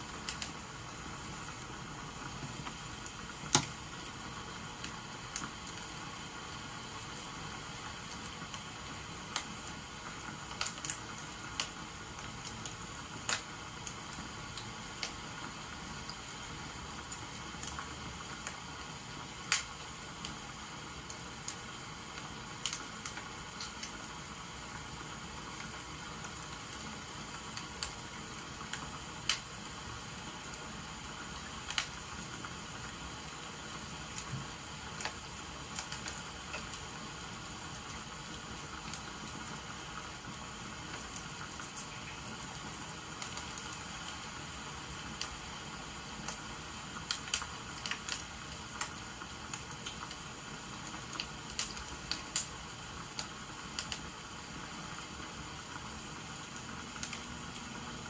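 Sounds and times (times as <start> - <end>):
rain hissing: 0.0 - 58.0
wood fire crackling: 0.0 - 58.0.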